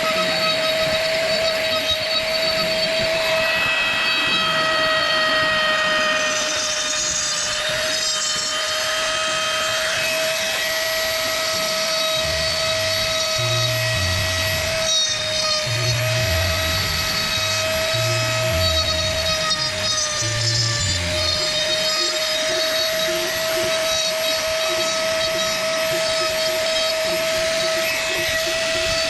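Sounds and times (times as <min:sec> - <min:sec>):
power tool whining cutting wood: 0:00.0 - 0:29.0.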